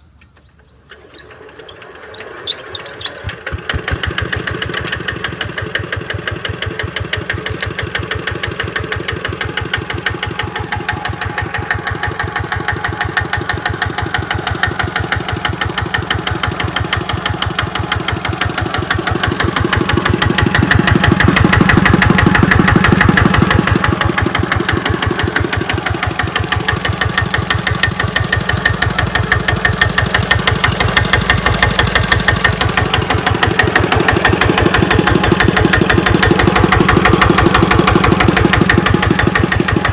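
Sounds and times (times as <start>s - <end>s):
diesel engine chugging: 0.5s - 39.9s.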